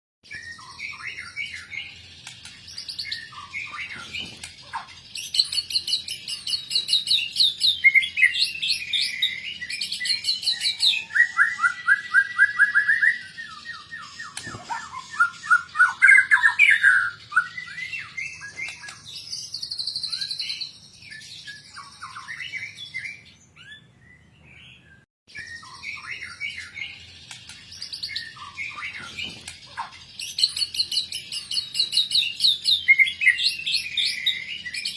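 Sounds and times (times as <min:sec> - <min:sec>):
songbird singing trills and whistles: 0:00.2 - 0:34.9.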